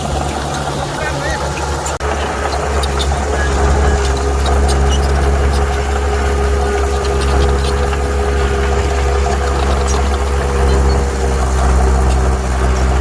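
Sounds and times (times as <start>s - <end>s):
heavy diesel engine running: 0.0s - 13.0s
metallic clicks and squeaks: 0.0s - 13.0s.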